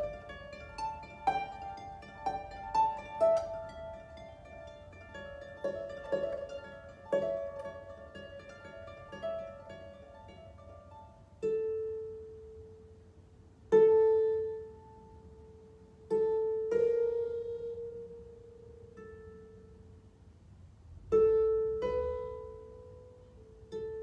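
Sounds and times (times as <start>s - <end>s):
solo harp playing: 0.0s - 20.1s, 21.0s - 24.0s.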